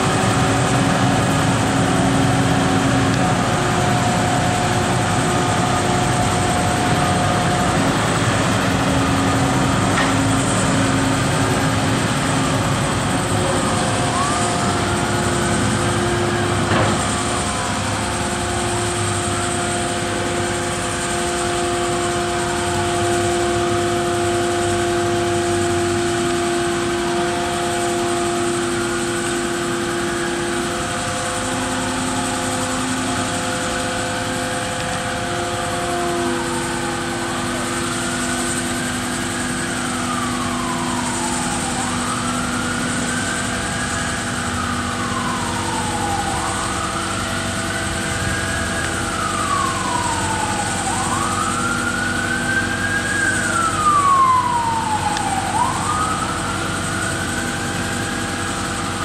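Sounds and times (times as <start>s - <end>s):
crane engine running: 0.0s - 59.0s.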